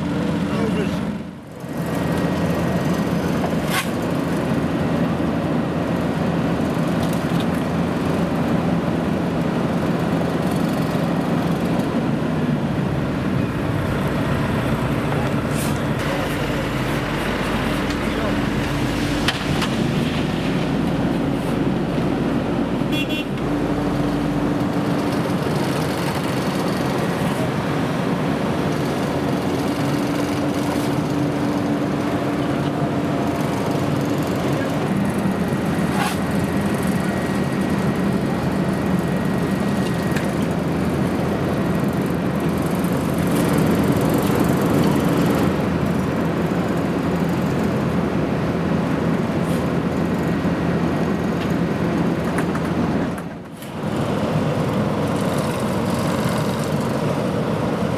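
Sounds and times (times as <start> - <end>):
road noise: 0.0 - 57.9
vehicle engine running: 1.9 - 53.1.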